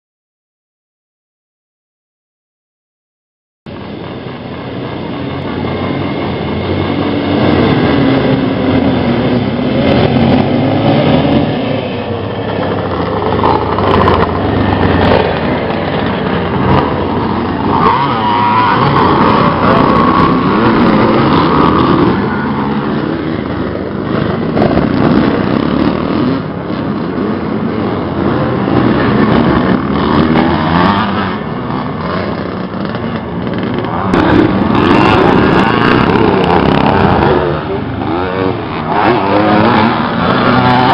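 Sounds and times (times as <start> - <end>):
motorcycle engines revving: 3.7 - 40.9.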